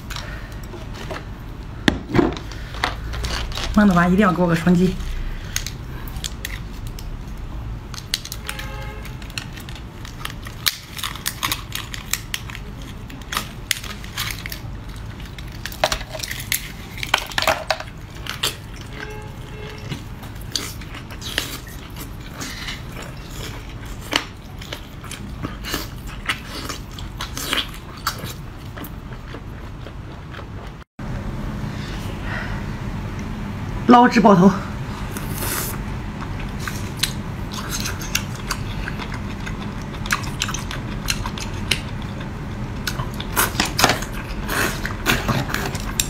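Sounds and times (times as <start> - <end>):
crunching and chewing seafood: 0.0 - 1.8, 2.4 - 3.8, 5.0 - 30.8, 35.0 - 46.0.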